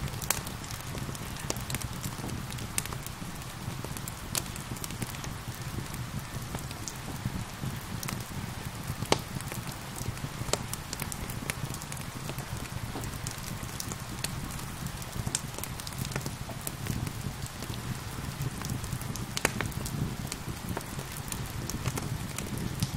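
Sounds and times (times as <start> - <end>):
steady rain: 0.0 - 22.9
wood fire popping and crackling: 0.0 - 22.9.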